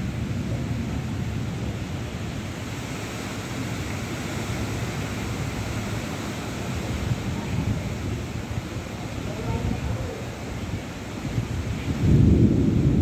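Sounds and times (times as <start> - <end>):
heavy rain falling: 0.0 - 13.0
low wind rumble: 0.0 - 13.0.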